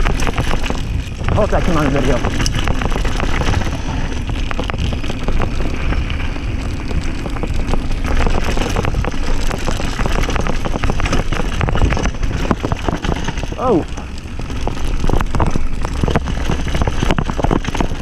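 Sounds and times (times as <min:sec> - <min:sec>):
bike rattling and knocking: 0:00.0 - 0:18.0
bike tyres on dirt trail: 0:00.0 - 0:18.0
wind on microphone: 0:00.0 - 0:18.0.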